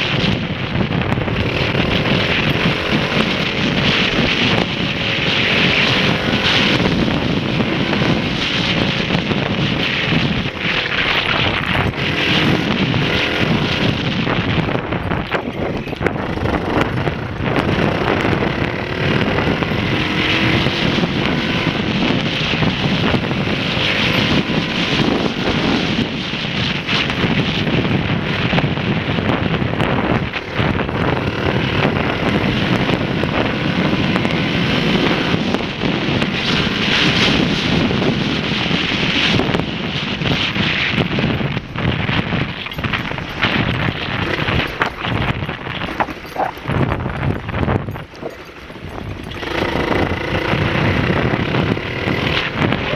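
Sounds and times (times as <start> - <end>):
dirt bike engine running: 0.0 - 52.9
wind buffeting microphone: 0.0 - 52.9.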